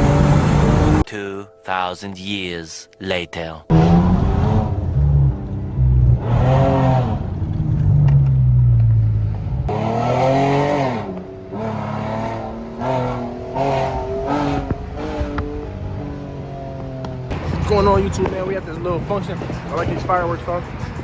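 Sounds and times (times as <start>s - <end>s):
car engine revving: 0.0s - 1.0s, 3.7s - 20.8s.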